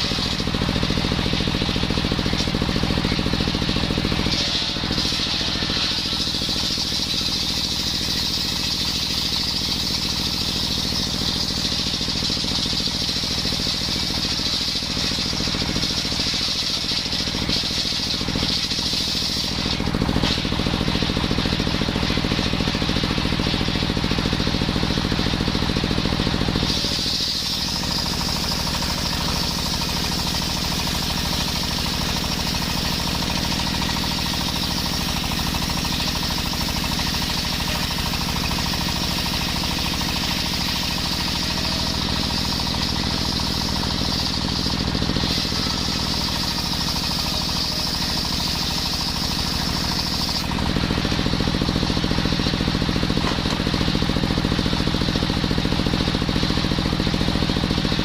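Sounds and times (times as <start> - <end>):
saw blade whining: 0.0 - 57.8
small petrol engine running: 0.0 - 58.0.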